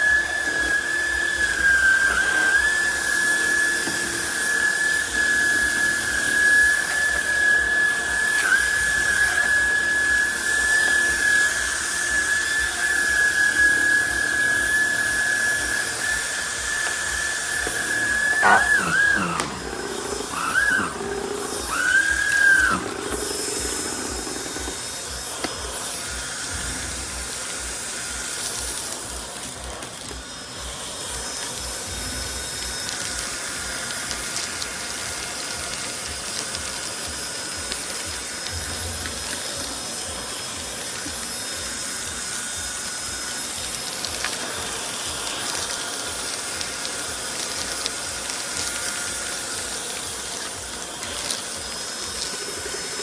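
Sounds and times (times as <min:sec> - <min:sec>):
vacuum cleaner whine: 0:00.0 - 0:53.0.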